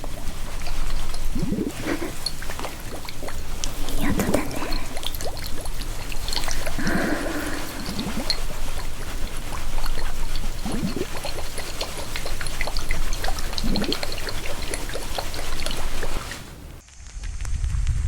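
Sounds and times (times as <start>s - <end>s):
small crackles and clicks: 0.0s - 17.9s.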